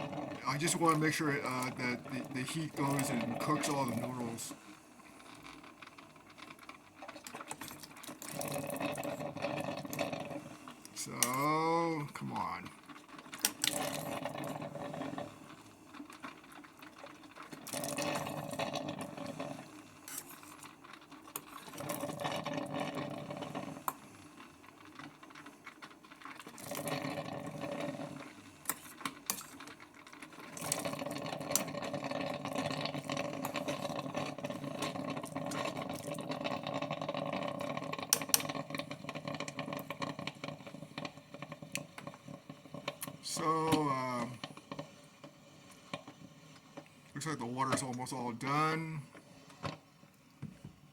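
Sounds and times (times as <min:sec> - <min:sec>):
coffee maker gurgling and sputtering: 0:00.0 - 0:50.9.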